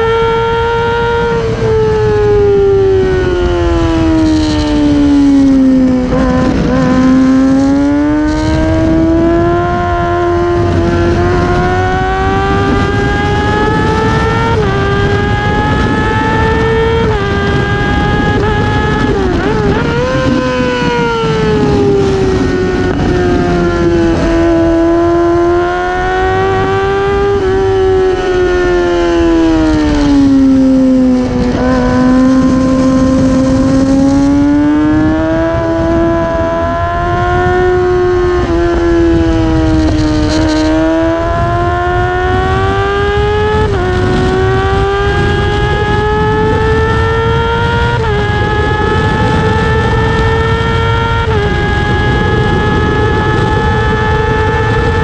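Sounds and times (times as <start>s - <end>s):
racing motorcycle engine revving: 0.0s - 55.0s
wind rush: 0.0s - 55.0s.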